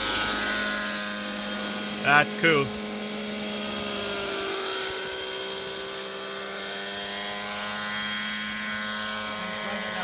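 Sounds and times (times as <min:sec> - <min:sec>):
model helicopter engine and rotors: 0:00.0 - 0:10.0.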